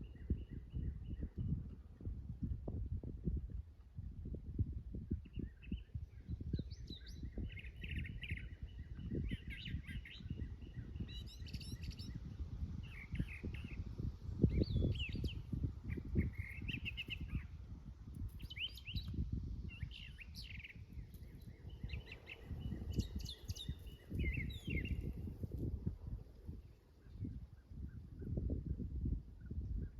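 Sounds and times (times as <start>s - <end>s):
birds chirping and twittering: 0.0s - 1.8s, 5.2s - 17.6s, 18.2s - 28.8s.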